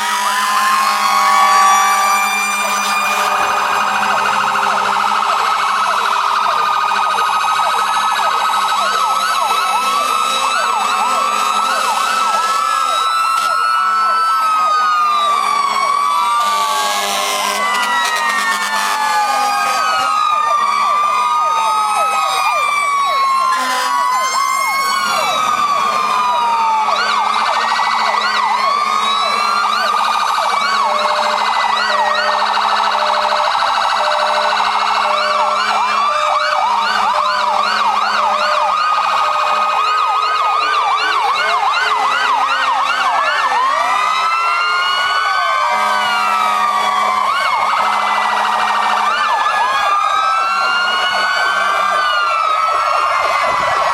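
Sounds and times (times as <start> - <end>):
fire engine sirens wailing: 0.0 - 53.9.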